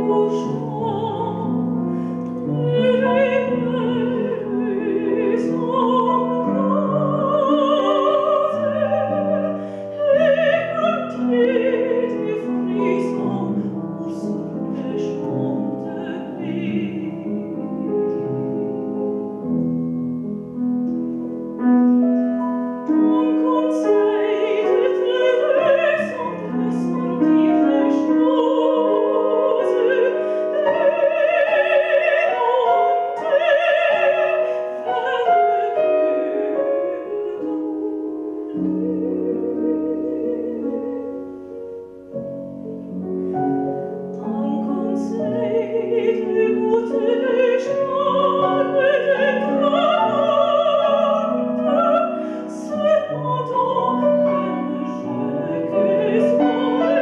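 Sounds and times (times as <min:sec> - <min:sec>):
woman singing operatically: 0:00.0 - 0:01.7, 0:02.4 - 0:19.1, 0:22.8 - 0:41.2, 0:44.1 - 0:57.0
grand piano: 0:00.0 - 0:57.0.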